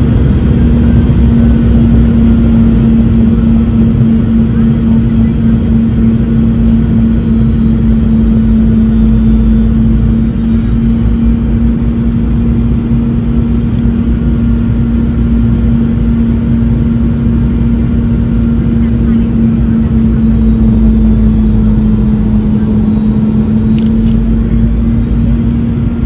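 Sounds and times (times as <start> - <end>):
airplane cabin engine drone: 0.0 - 26.0.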